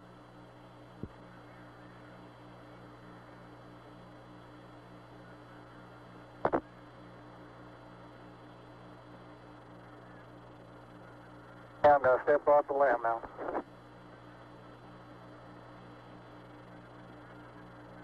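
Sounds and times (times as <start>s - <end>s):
radio electrical hum and hiss: 0.0s - 18.0s.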